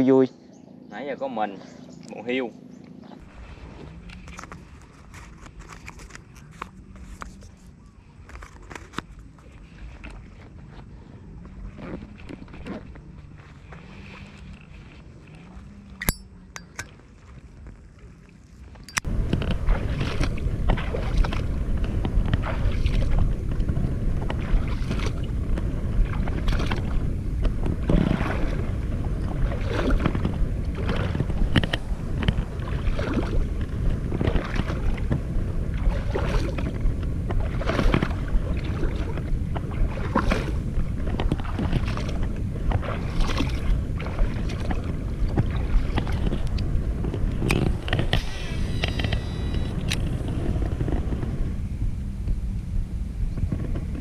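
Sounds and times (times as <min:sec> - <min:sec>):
boat motor and wind rumble: 0:00.0 - 0:54.0
hull slapping water: 0:02.8 - 0:07.8, 0:08.4 - 0:54.0.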